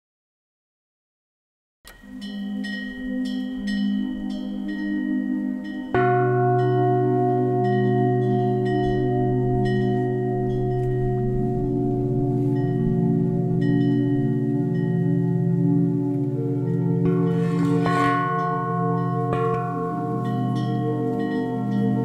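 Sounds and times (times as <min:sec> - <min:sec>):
light chime notes: 0:02.0 - 0:22.0
deep bell tones ringing: 0:02.1 - 0:22.0.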